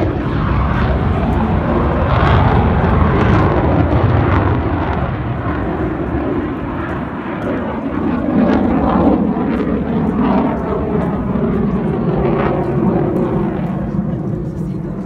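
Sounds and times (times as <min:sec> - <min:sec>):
fighter jet roaring overhead: 0:00.0 - 0:15.0.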